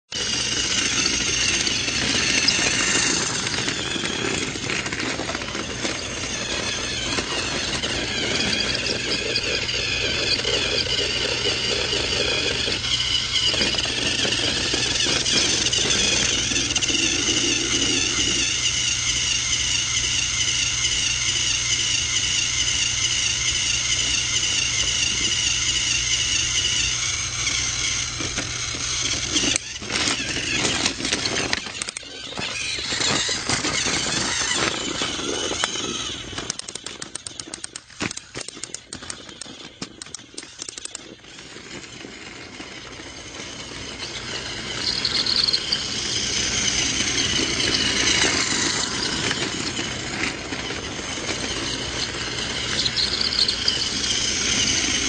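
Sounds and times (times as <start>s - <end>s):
small motor whining: 0.1s - 55.0s.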